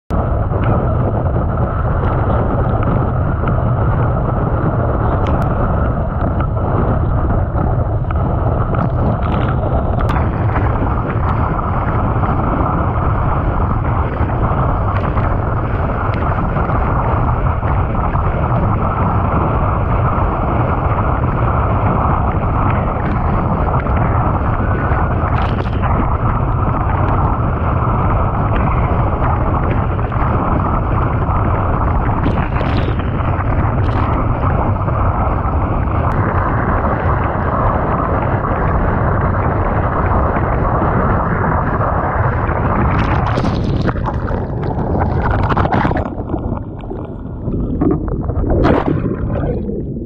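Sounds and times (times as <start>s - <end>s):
water rushing under board: 0.1s - 50.0s
wind buffeting microphone: 0.1s - 50.0s.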